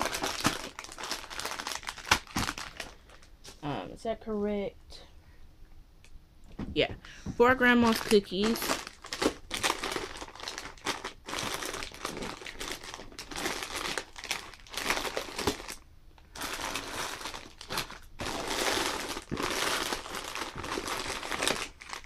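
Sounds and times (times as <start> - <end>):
plastic wrappers crinkling: 0.0 - 3.3, 7.6 - 22.0.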